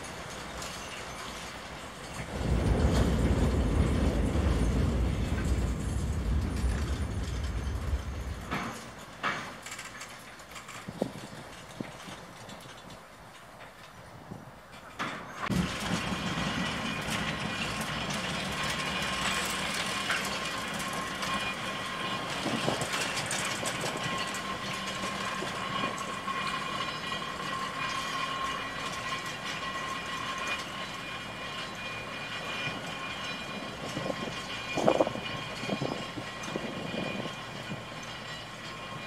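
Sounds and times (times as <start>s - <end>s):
electric locomotive whine: 0.0s - 39.0s
train wheels clicking over rails: 0.0s - 39.0s.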